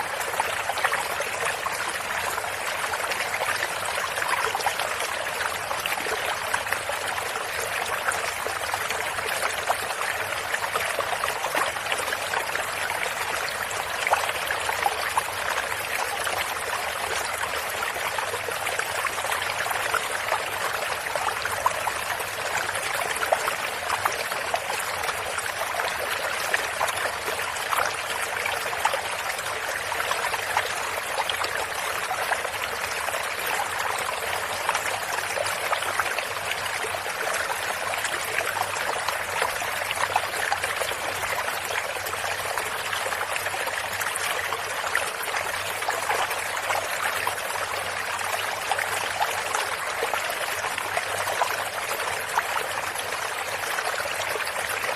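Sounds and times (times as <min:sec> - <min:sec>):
running water stream: 0:00.0 - 0:54.9.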